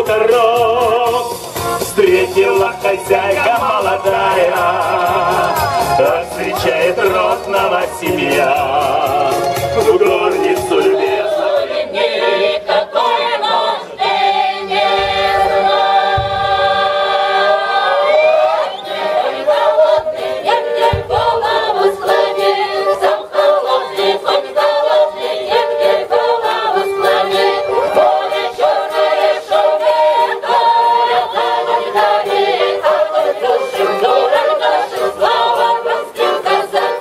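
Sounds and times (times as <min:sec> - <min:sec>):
folk choir singing: 0:00.0 - 0:37.0.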